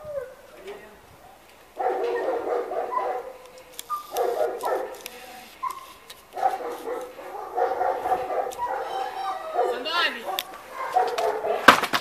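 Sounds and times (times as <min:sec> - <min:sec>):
dog barking: 0:01.8 - 0:11.7.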